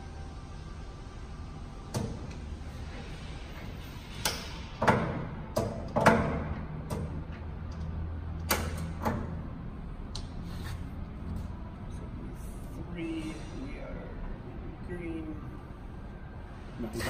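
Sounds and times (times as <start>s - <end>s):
low steady machine hum: 0.0s - 17.0s.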